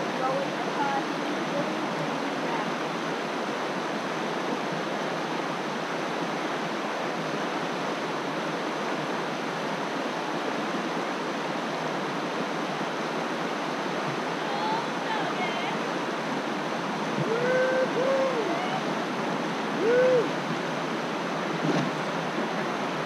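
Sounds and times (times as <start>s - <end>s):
river rapids rushing over rocks: 0.0s - 23.0s.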